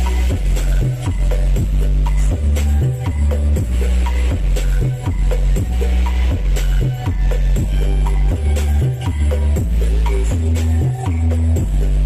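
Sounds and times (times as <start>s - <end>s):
deep bass notes: 0.0s - 12.0s
steady drum beat: 0.0s - 12.0s.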